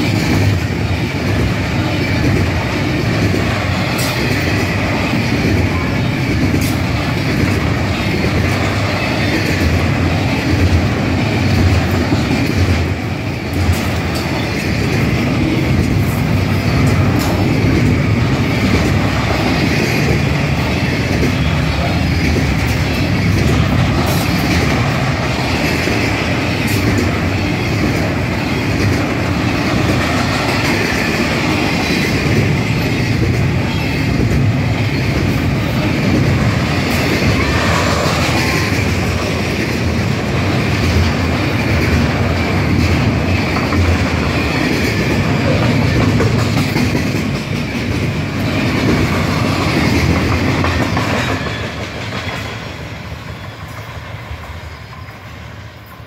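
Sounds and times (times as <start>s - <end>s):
freight train wheels rumbling on rails: 0.0s - 56.0s
sharp clicks of rail wheels: 0.0s - 56.0s.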